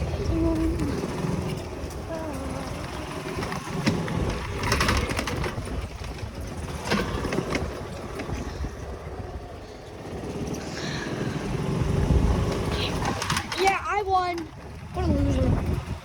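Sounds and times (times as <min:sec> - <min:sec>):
small motor vehicle on dirt track: 0:00.0 - 0:16.0.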